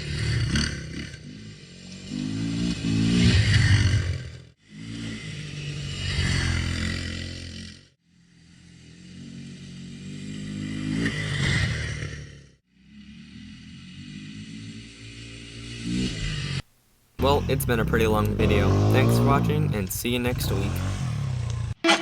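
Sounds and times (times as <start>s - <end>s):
quad bike engine revving: 0.0s - 16.6s, 17.2s - 21.8s.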